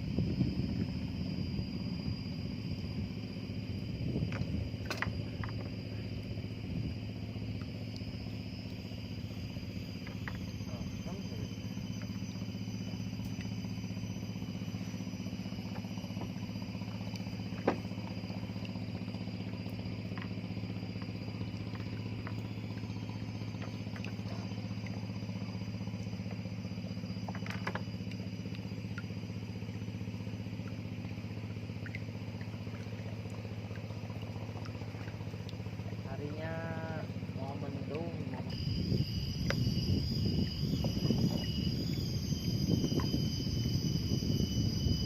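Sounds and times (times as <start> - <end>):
motor humming: 0.0 - 45.0.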